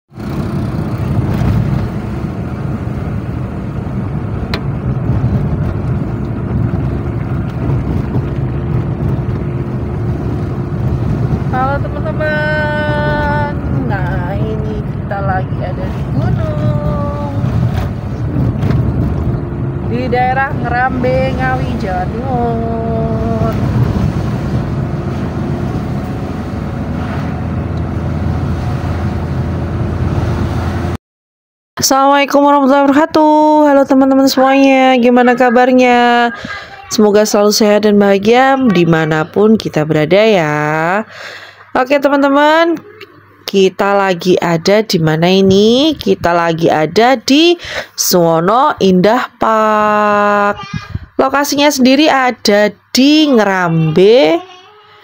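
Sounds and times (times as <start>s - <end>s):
car engine and road rumble: 0.1s - 31.0s, 31.9s - 54.6s.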